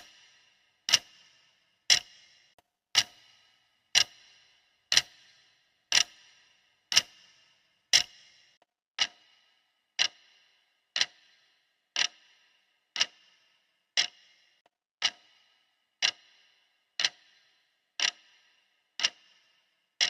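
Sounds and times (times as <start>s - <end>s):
clock ticking: 0.0s - 20.0s.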